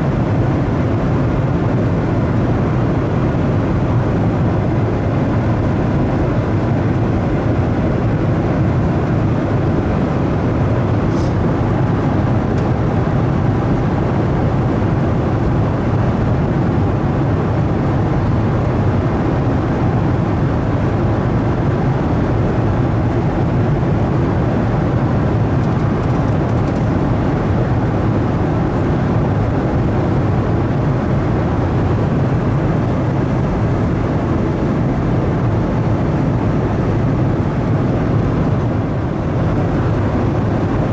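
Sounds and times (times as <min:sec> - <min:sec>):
airplane cabin engine rush: 0:00.0 - 0:40.9.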